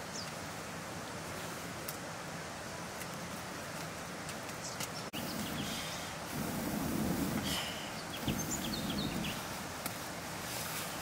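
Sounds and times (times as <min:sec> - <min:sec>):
low muffled noise swells: 0:00.0 - 0:11.0.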